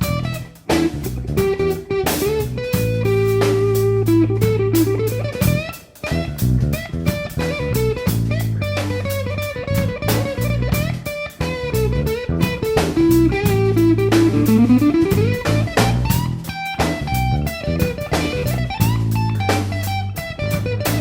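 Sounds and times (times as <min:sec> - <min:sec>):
blues-rock band playing: 0:00.0 - 0:21.0
sliding electric guitar line: 0:00.0 - 0:21.0.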